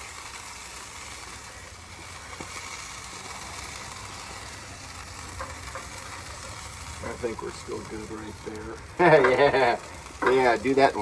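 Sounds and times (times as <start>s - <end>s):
gas grill burners hissing: 0.0s - 11.0s.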